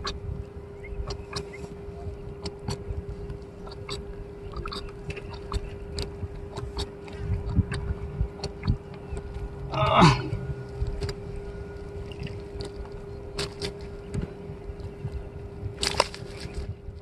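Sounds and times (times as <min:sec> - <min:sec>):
crackling clicks and rustles: 0:00.0 - 0:09.6, 0:10.3 - 0:17.0
faint hum: 0:00.0 - 0:17.0
low rumble: 0:00.0 - 0:17.0.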